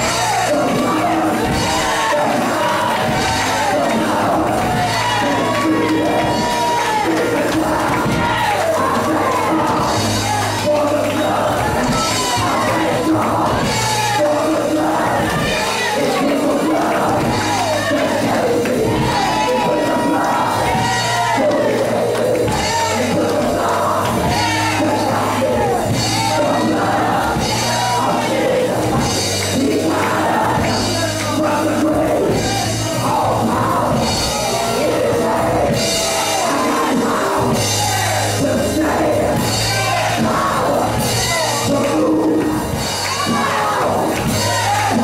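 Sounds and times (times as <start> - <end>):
bass guitar: 0.0 - 45.0
drum kit: 0.0 - 45.0
live band playing loud music: 0.0 - 45.0
voices singing and shouting: 0.0 - 45.0.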